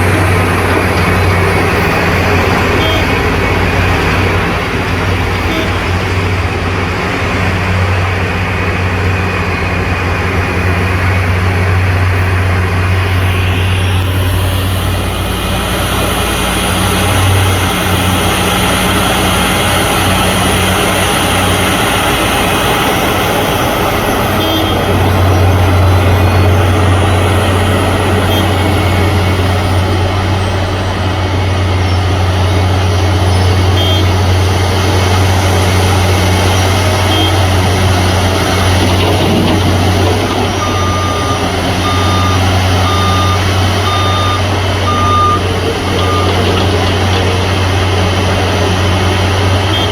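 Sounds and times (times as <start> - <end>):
heavy engine running: 0.0 - 49.9.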